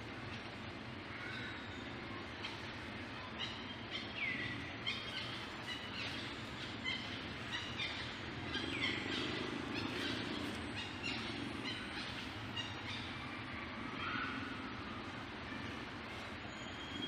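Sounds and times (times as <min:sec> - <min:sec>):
steady low hum: 0:00.0 - 0:16.5
swooping bird calls: 0:01.1 - 0:15.7
birds chirping: 0:01.2 - 0:17.0.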